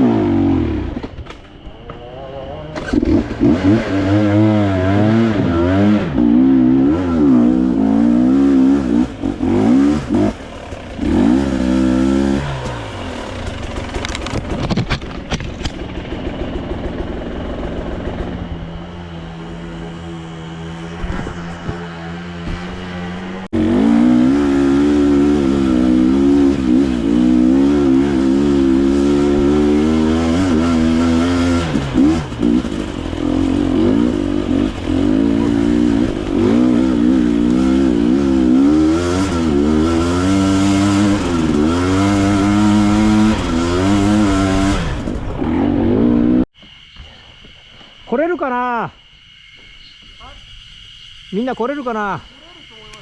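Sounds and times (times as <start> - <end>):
dirt bike engine revving: 0.0 - 1.1, 2.6 - 46.5.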